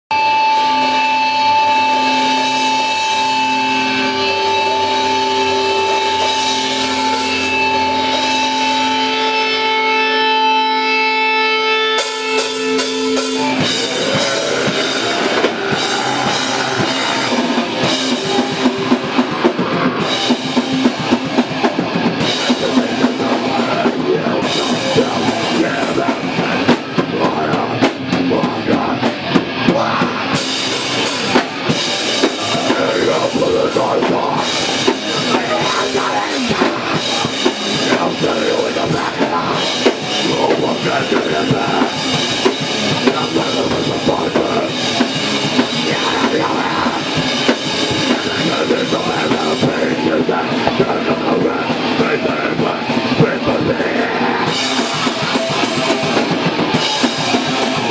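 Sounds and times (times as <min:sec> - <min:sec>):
heavy metal band playing: 0:00.1 - 0:57.9.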